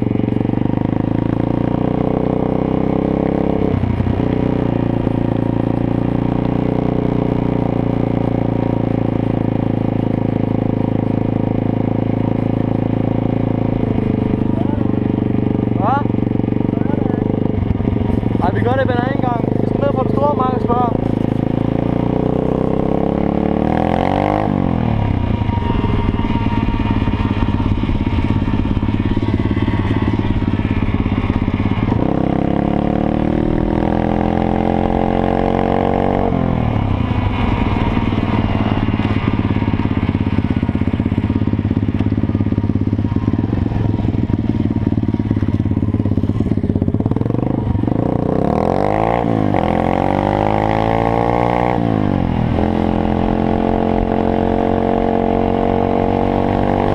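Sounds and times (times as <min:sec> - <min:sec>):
moped engine revving: 0:00.0 - 0:56.9.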